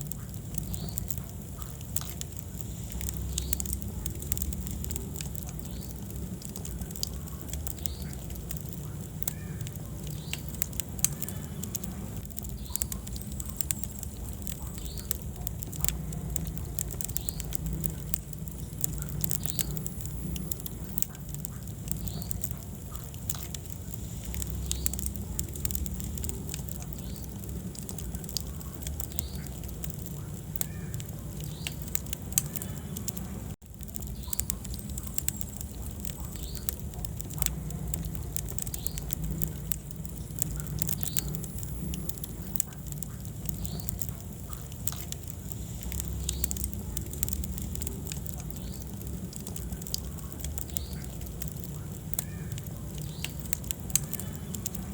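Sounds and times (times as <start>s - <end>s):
low rumble of burning: 0.0s - 54.9s
wood fire crackling: 0.0s - 54.9s.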